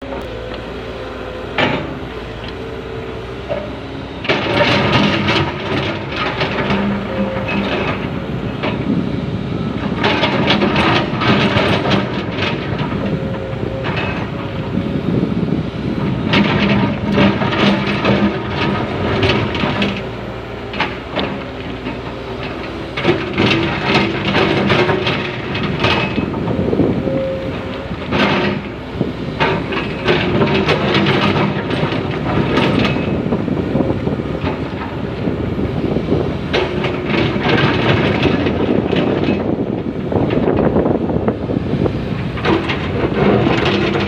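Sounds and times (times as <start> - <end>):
excavator diesel engine under load: 0.0 - 44.0.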